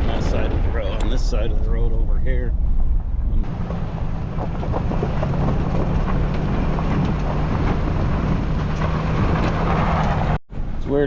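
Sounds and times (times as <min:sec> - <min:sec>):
engine low hum: 0:00.0 - 0:11.0
tyre and road noise: 0:00.0 - 0:11.0.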